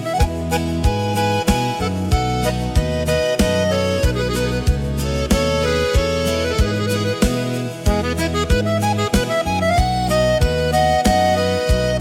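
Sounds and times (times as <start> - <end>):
accordion melody: 0.0 - 12.0
acoustic guitar: 0.0 - 12.0
steady low beat: 0.0 - 12.0.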